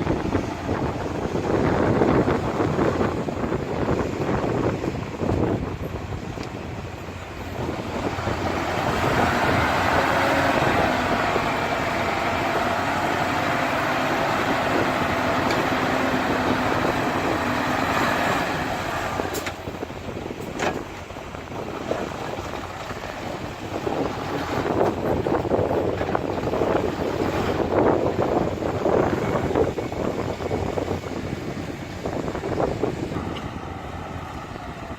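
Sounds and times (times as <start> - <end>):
heavy machinery diesel engine: 0.0 - 34.9.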